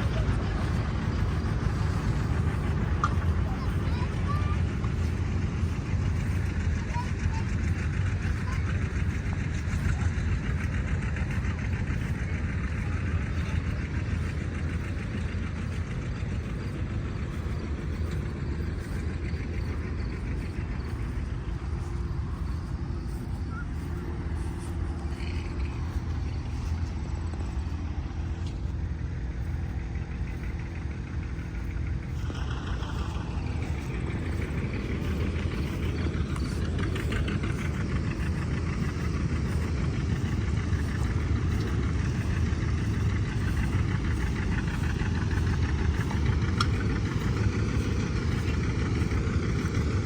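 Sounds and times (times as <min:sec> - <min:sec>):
engine rumbling with fast pulse: 0:00.0 - 0:50.0.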